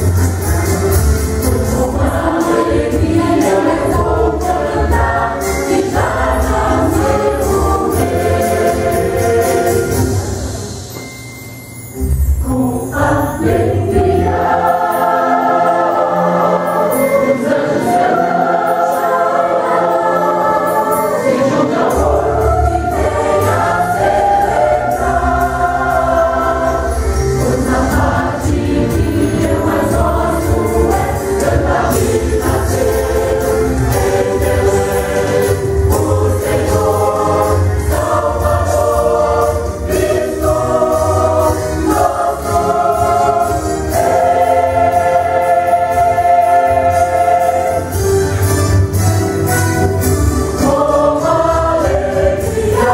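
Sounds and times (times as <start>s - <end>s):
choir singing in harmony: 0.0s - 11.1s, 12.0s - 52.9s
musical accompaniment: 0.0s - 52.9s.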